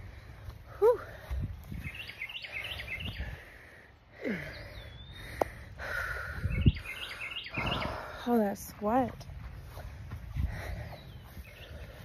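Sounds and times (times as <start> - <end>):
songbird chirping: 1.6 - 12.0.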